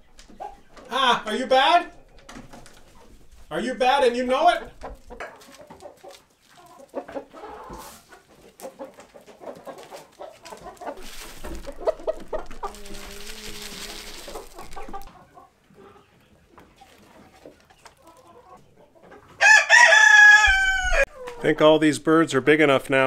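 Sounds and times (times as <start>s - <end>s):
chickens clucking: 0.0s - 21.8s.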